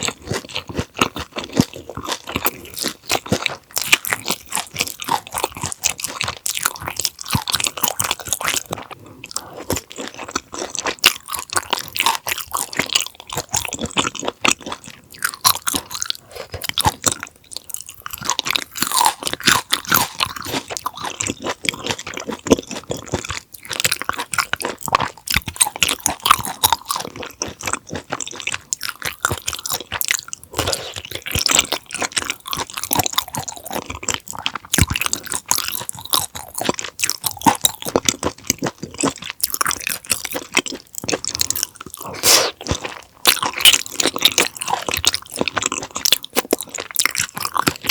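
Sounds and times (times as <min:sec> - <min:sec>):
close-miked wet crunchy chewing: 0:00.0 - 0:47.9.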